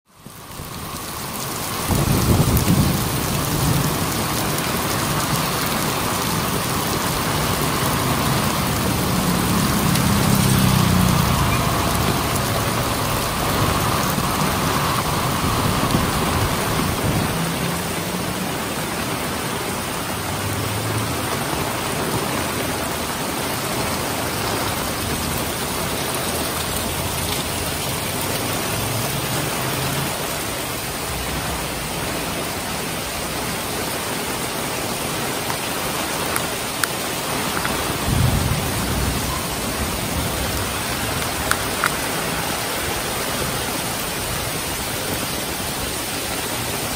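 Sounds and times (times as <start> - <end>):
heavy rain: 0.1 - 46.9.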